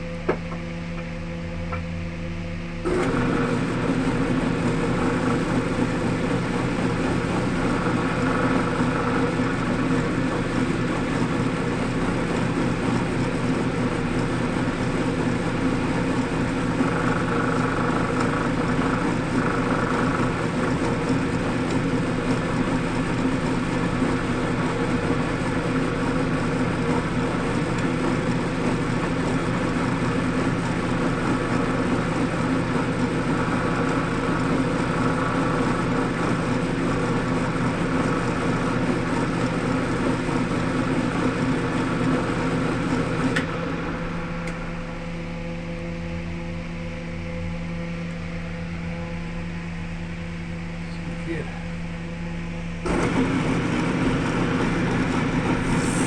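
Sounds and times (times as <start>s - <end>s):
wood lathe running: 2.8s - 44.9s, 52.9s - 56.0s.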